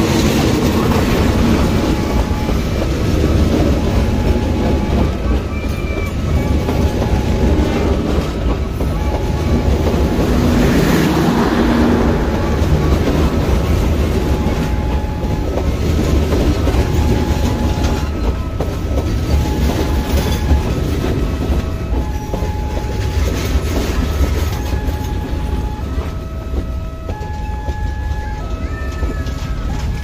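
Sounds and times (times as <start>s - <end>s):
train coaches rumbling past: 0.0s - 30.0s.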